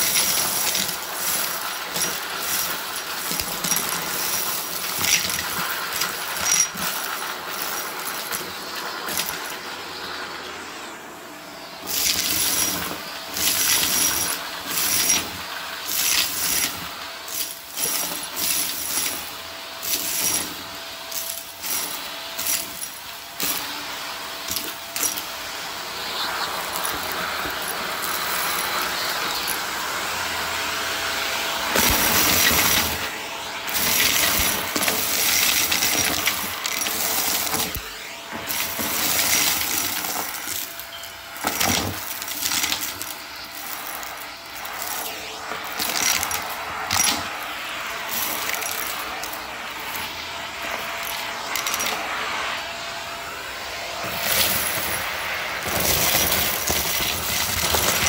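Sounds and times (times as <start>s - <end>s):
debris rattling through vacuum cleaner: 0.0s - 58.0s
vacuum cleaner motor tone: 0.0s - 58.0s.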